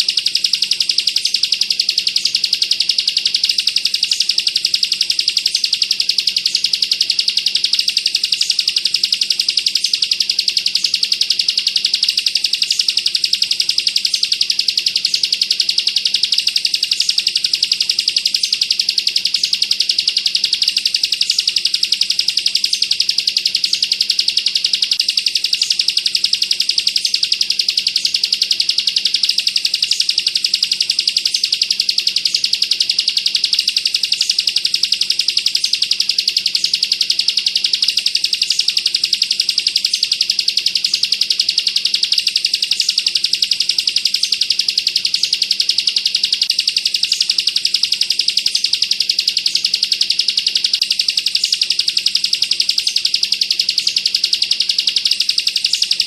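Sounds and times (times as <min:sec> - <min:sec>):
bird singing a fast dense trill: 0:00.0 - 0:56.0.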